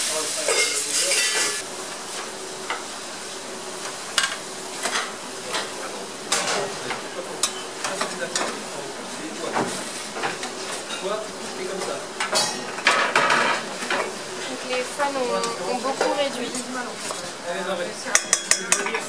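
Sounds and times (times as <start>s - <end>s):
vegetables sizzling in oil: 0.0s - 17.6s.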